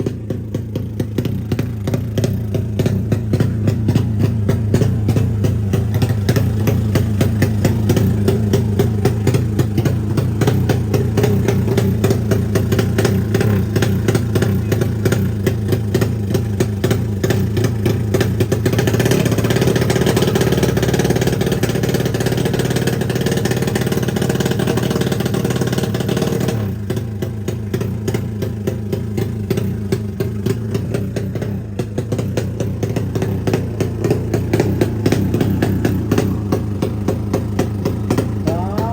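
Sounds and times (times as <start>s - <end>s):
motorcycle engine lumpy pulse: 0.0s - 38.9s.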